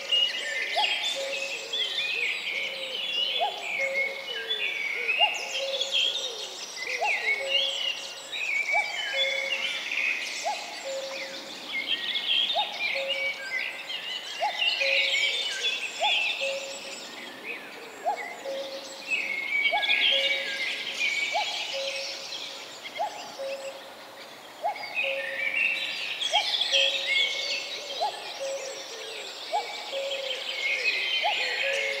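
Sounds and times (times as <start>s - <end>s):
chorus of birds singing: 0.0s - 32.0s.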